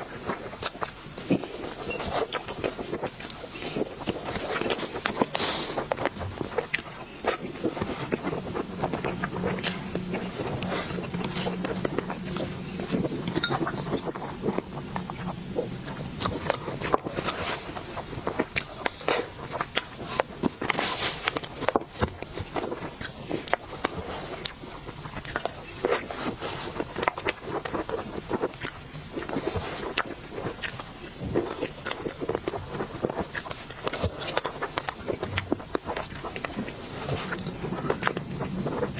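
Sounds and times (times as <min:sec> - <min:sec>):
faint steady hum: 0:00.0 - 0:38.9
sweets being chewed: 0:00.0 - 0:38.9.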